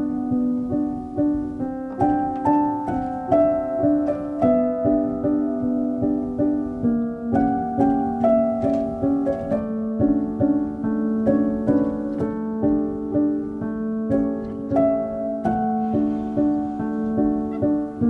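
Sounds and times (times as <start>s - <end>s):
gentle plucked instrumental music: 0.0s - 18.0s.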